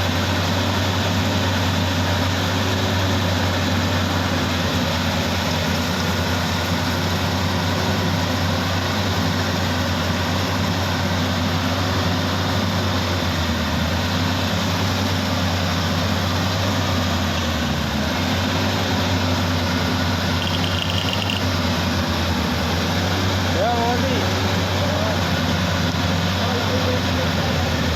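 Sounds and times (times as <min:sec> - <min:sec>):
combine harvester engine drone: 0:00.0 - 0:27.9.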